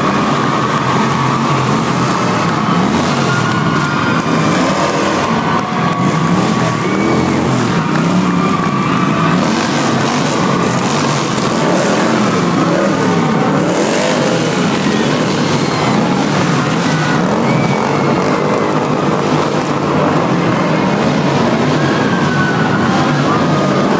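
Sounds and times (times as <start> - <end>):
motorcycle engines revving: 0.0 - 23.9.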